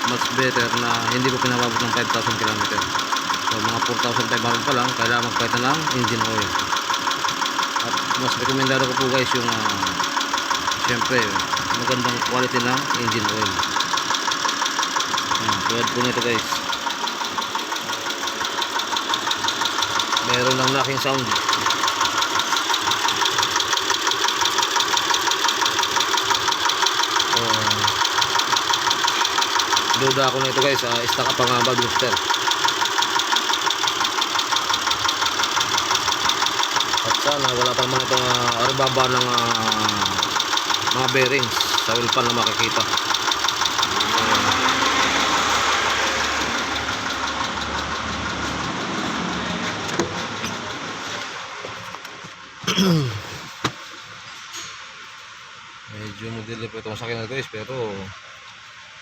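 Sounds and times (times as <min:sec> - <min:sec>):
fast ticking engine knock: 0:00.0 - 0:50.8
car engine idling: 0:00.0 - 0:59.0.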